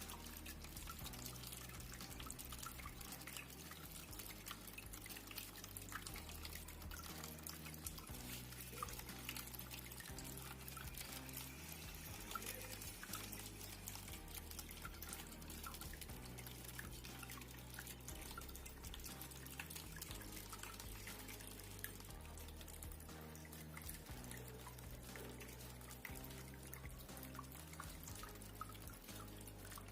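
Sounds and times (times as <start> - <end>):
fountain water trickling: 0.0 - 29.9.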